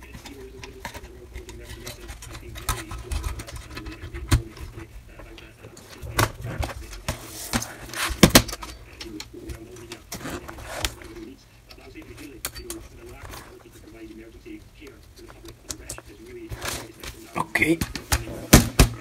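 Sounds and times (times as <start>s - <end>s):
clicks and knocks of metal and plastic: 0.0s - 13.8s, 15.0s - 19.0s.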